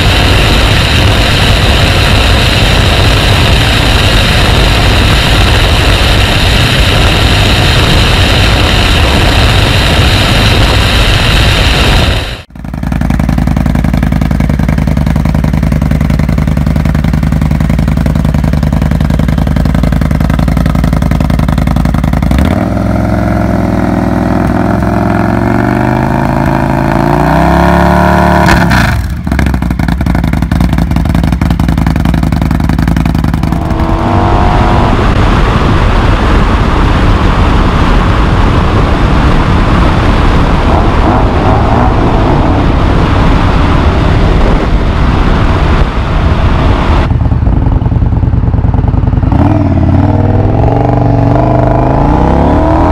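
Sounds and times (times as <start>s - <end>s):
wind rush while riding: 0.0s - 27.8s, 28.4s - 52.9s
motorcycle engine idling and revving: 0.0s - 52.9s.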